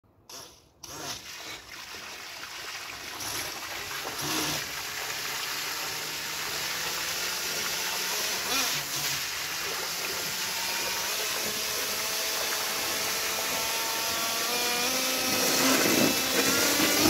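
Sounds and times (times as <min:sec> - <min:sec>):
water jet splashing on pool: 0:00.8 - 0:17.0.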